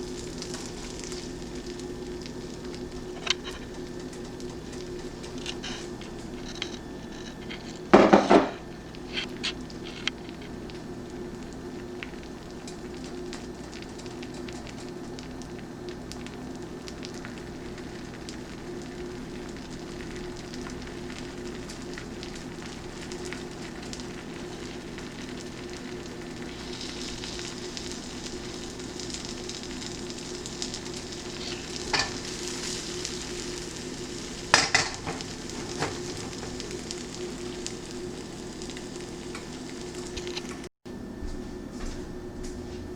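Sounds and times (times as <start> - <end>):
toast sizzling on a griddle: 0.0 - 40.7.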